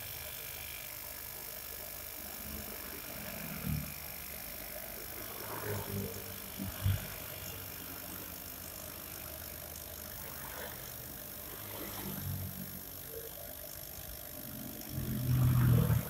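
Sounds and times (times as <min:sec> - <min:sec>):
laser cutter humming: 0:00.0 - 0:16.0.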